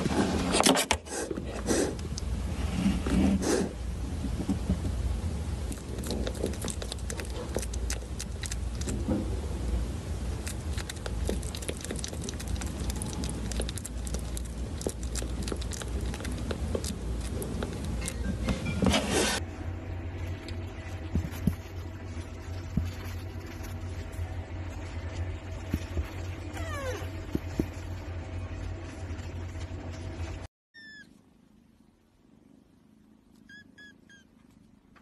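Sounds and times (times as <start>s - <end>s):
low steady rumble: 1.4s - 35.0s.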